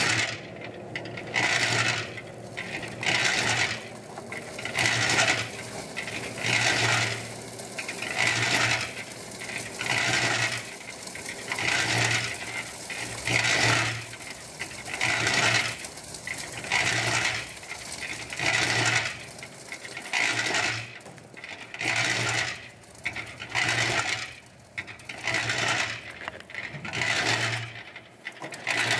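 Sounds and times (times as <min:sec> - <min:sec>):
concrete mixer running: 0:00.0 - 0:28.9
metallic clatter and grind: 0:00.0 - 0:28.9.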